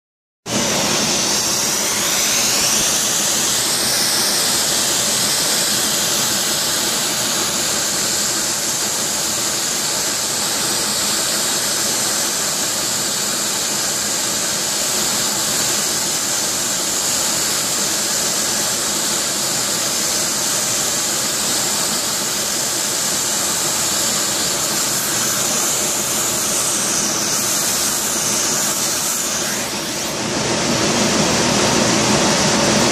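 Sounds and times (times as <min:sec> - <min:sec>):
torch flame hissing: 0:00.5 - 0:32.9.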